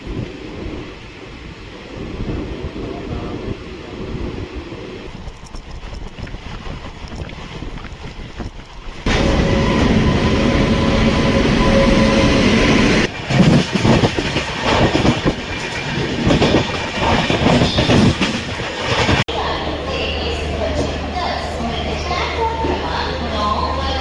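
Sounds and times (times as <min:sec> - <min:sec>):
dense train running noise: 0:00.0 - 0:24.0
low train rumble: 0:00.0 - 0:24.0
train clattering: 0:02.1 - 0:24.0.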